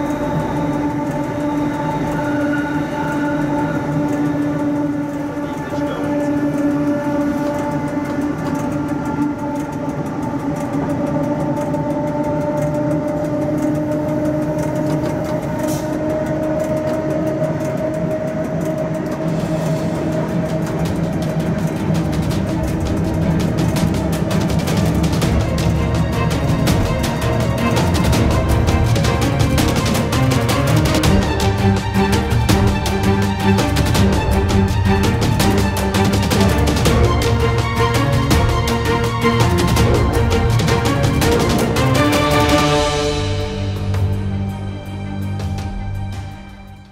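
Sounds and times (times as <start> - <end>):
track clicking: 0.0 - 46.9
wheels rumbling on rail: 0.0 - 46.9.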